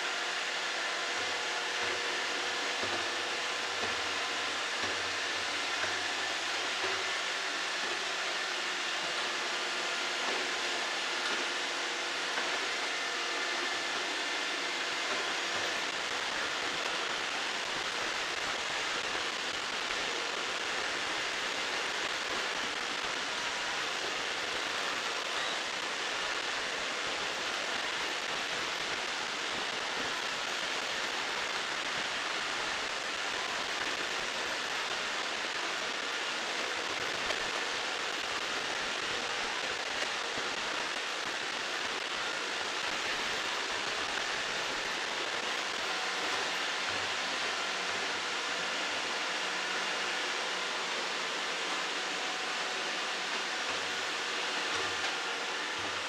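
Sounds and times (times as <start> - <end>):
robot vacuums whirring: 0.0 - 56.0.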